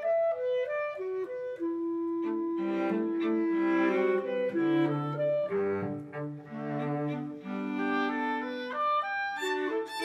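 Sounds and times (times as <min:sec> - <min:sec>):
bowed strings playing classical music: 0:00.0 - 0:10.0.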